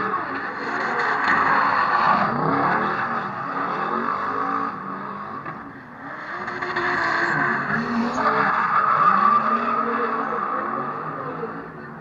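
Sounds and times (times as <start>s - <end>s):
car engine revving hard: 0.0s - 11.9s.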